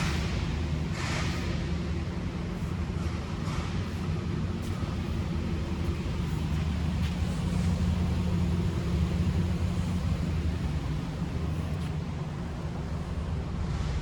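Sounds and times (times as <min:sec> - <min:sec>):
pickup engine running steadily: 0:00.0 - 0:14.0.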